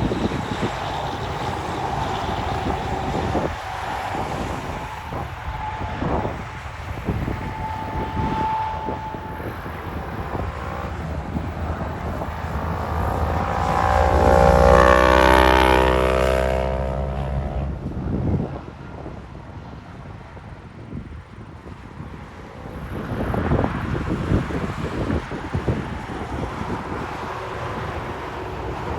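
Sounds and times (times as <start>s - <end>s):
semi truck driving past: 0.0s - 20.5s, 21.4s - 28.9s.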